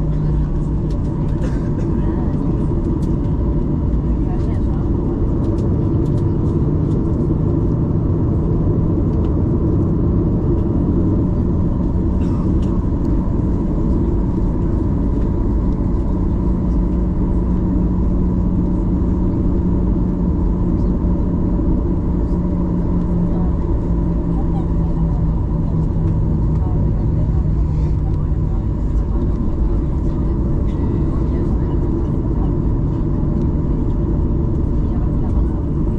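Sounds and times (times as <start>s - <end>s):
jet engine cabin rumble: 0.0s - 35.9s.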